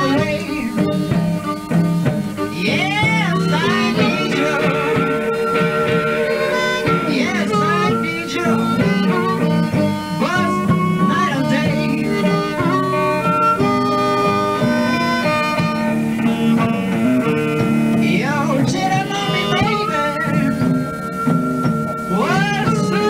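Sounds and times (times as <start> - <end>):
blues band playing: 0.0 - 23.0
harmonica: 0.0 - 23.0.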